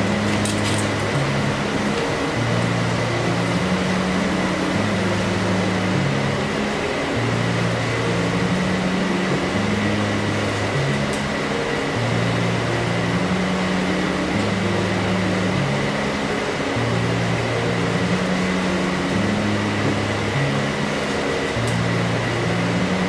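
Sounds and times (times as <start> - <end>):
loud rushing fan noise: 0.0 - 23.0
slow bass notes music: 0.0 - 23.0.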